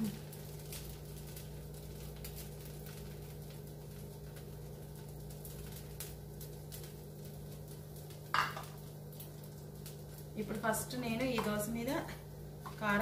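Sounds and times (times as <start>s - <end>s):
batter crackling on hot pan: 0.0s - 13.0s
steady low hum: 0.0s - 13.0s.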